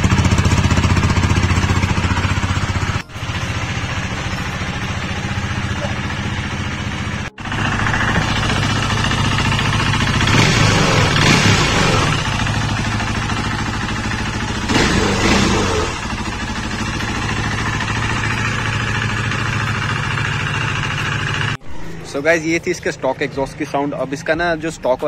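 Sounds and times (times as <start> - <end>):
motorcycle engine idling and revving: 0.0 - 25.0.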